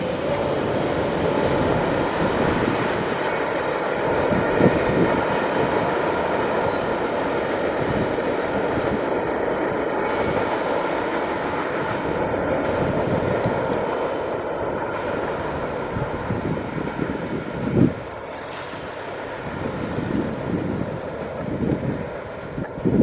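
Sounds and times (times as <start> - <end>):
steel wheels rumbling on track: 0.0 - 23.0.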